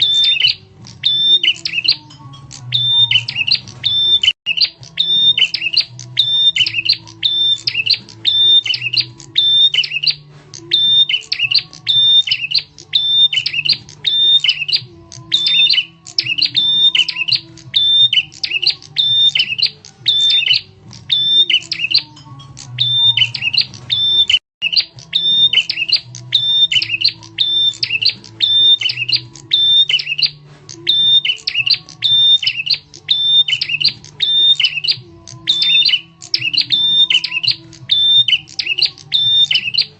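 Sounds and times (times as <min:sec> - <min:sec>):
high bird chirping calls: 0:00.0 - 0:39.9.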